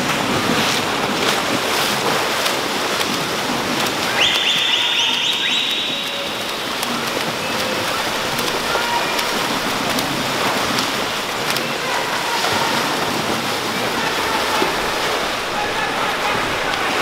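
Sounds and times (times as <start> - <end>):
swimmers splashing water: 0.0 - 17.0.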